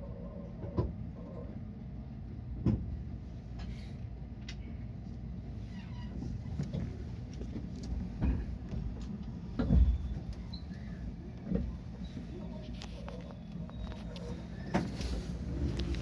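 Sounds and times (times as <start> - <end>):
train cabin rumble: 0.0 - 16.0.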